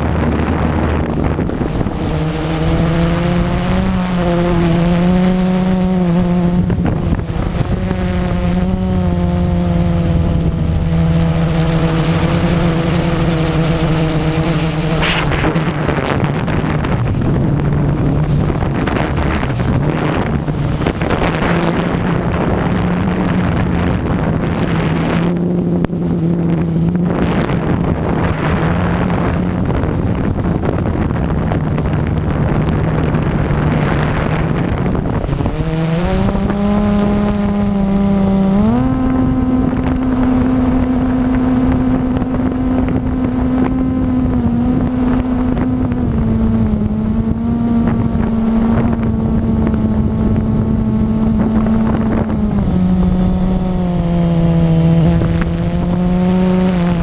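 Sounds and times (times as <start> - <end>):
quadcopter propellers buzzing: 0.0 - 57.0.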